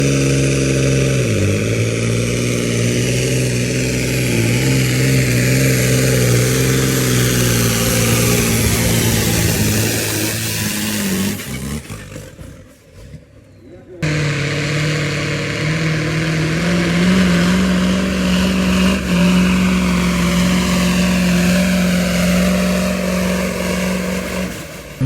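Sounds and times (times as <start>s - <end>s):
truck diesel engine pulling hard: 0.0s - 25.0s.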